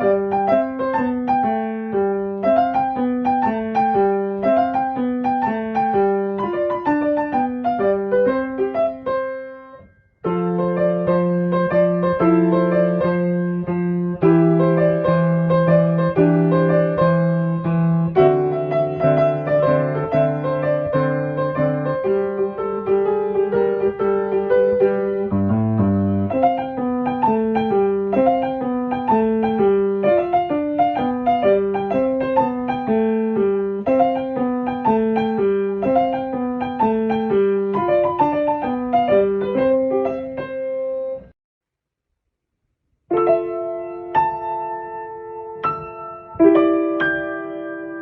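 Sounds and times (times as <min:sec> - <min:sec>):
piano music: 0:00.0 - 0:41.4, 0:43.1 - 0:48.0.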